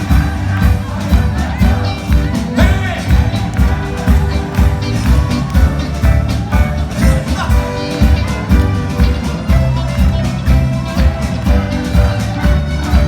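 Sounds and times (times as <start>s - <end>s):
country band music: 0.0s - 13.0s.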